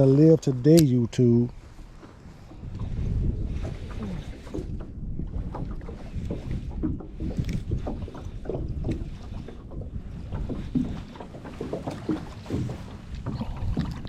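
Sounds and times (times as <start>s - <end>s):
waves slapping boat hull: 0.0s - 14.0s
wind buffeting microphone: 0.0s - 14.0s.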